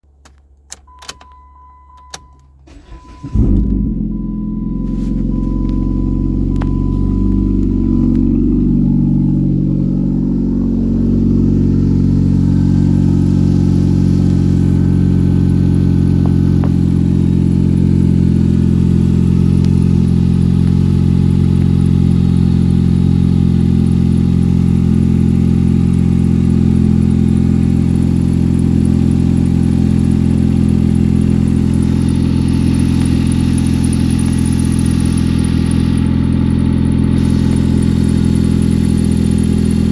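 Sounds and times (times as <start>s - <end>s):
car engine idling: 0.1s - 39.9s.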